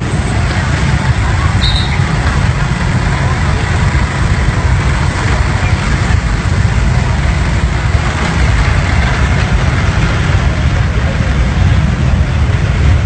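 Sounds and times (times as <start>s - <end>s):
street traffic noise: 0.0s - 13.0s
vehicle engine rumble: 0.0s - 13.0s.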